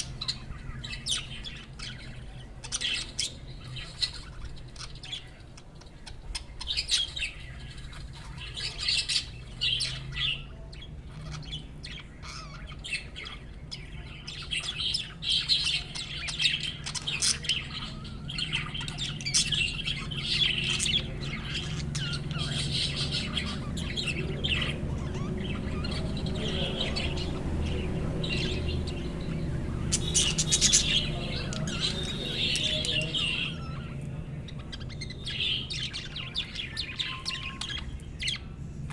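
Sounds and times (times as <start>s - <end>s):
budgerigars chirping and squawking: 0.0s - 38.9s
low steady hum: 0.0s - 38.9s.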